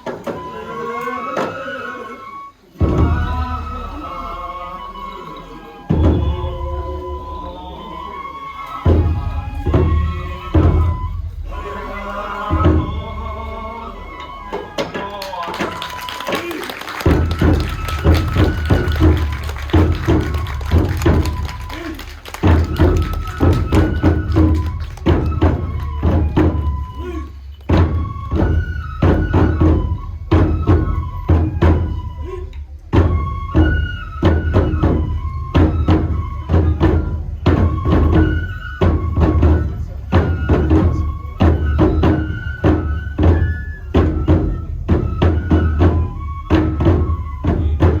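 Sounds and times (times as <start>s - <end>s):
big drum beating: 2.8s - 4.0s, 5.9s - 7.4s, 8.8s - 48.0s.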